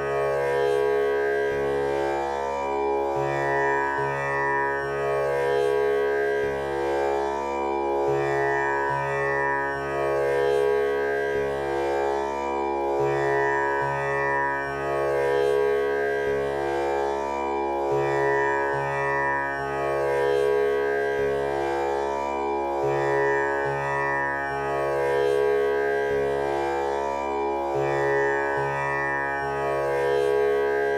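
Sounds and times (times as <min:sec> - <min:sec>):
tanpura drone: 0:00.0 - 0:30.9.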